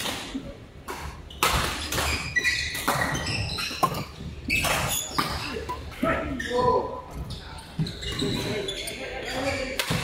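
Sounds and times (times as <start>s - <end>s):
shoes squeaking on court: 1.0s - 10.0s.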